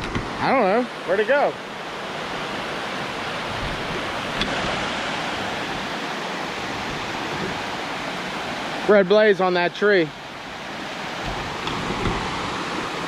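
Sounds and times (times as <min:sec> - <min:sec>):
creek rushing over waterfall: 0:00.0 - 0:13.0.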